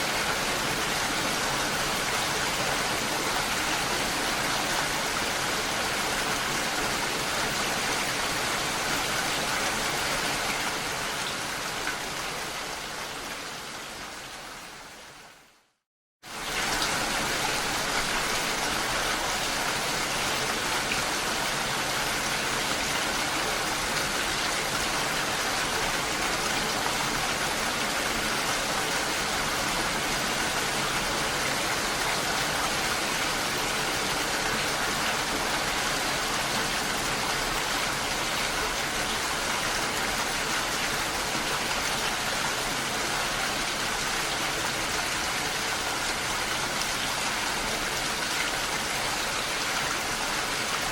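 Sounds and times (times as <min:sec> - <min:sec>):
rain and falling water hiss: 0:00.0 - 0:50.9.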